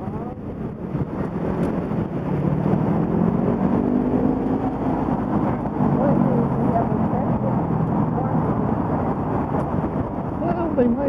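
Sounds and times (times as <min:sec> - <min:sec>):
bus engine hum: 0:00.0 - 0:11.0
street traffic rumble: 0:00.0 - 0:11.0.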